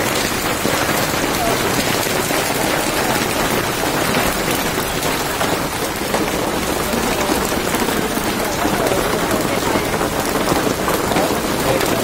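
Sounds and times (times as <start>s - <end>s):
hail and rain on hard surfaces: 0.0s - 12.0s.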